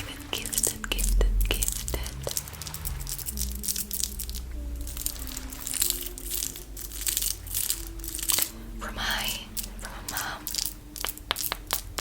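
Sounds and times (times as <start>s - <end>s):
crackling and crinkling: 0.0s - 12.0s.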